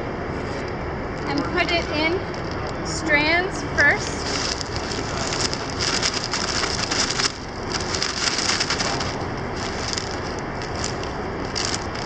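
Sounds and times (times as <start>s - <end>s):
plastic bag crinkling: 1.2s - 3.1s, 3.7s - 12.0s.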